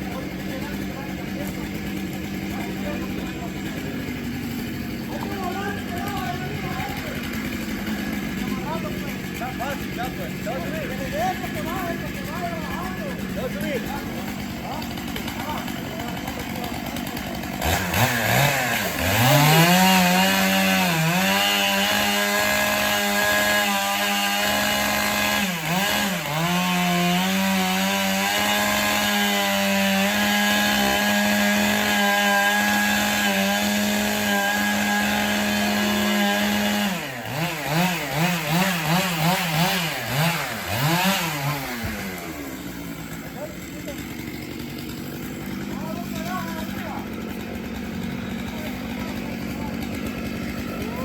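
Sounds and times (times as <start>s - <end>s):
chainsaw revving: 0.0s - 51.0s.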